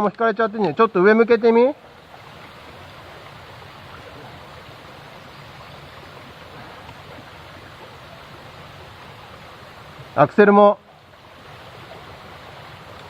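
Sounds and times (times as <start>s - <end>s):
steady rushing outdoor noise: 0.2s - 13.0s.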